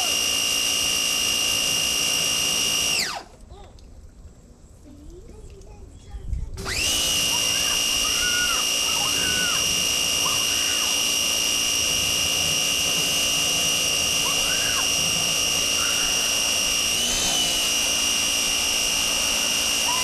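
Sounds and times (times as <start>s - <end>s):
pressure washer whine: 0.0s - 3.4s, 6.6s - 20.0s.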